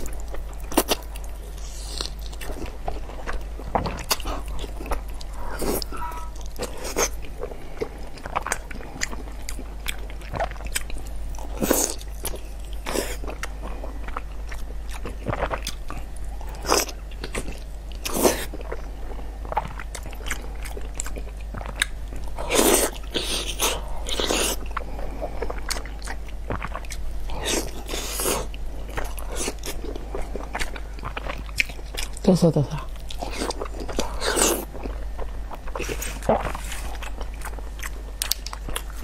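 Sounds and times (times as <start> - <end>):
person biting and chewing food: 0.0 - 18.8, 19.5 - 32.2, 32.9 - 39.0.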